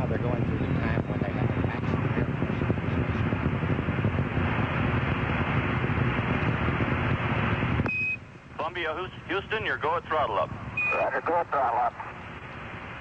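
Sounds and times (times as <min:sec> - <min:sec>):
rocket exhaust rumble: 0:00.0 - 0:13.0.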